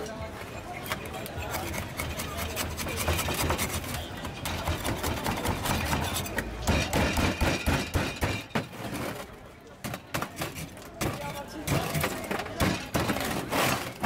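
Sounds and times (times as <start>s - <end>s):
knife striking and scraping ice: 0.8s - 9.0s, 9.9s - 14.0s.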